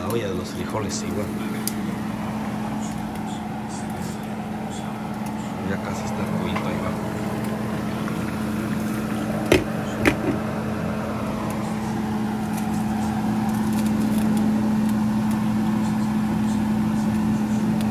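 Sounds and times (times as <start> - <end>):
steady mechanical hum: 0.0 - 17.9.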